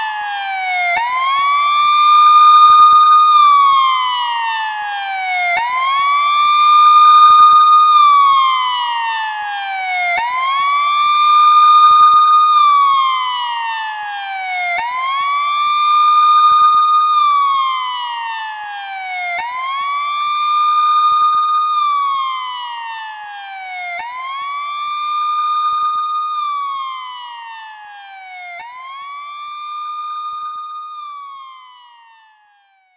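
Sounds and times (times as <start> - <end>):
police siren wailing: 0.0 - 32.9.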